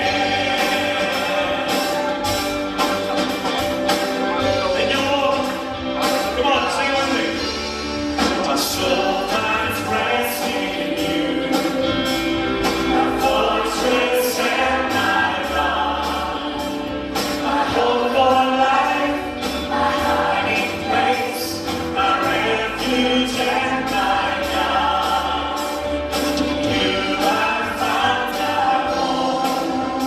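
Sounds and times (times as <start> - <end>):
singers singing worship song: 0.0 - 2.7, 8.1 - 30.0
instrumental backing with beat: 0.0 - 30.0.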